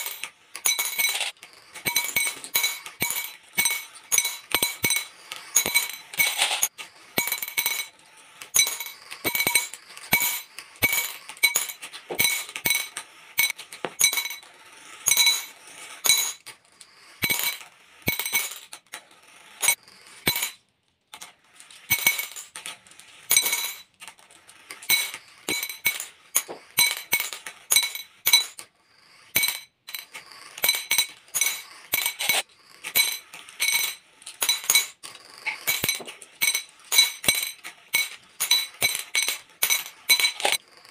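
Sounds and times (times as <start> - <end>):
glass marbles clinking in bowls: 0.0 - 40.9.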